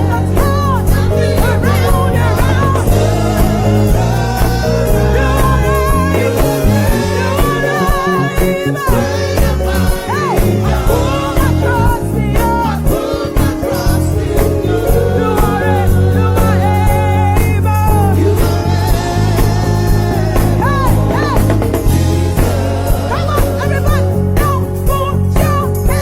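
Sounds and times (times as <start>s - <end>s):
gospel band playing: 0.0s - 26.0s
people singing: 0.0s - 26.0s.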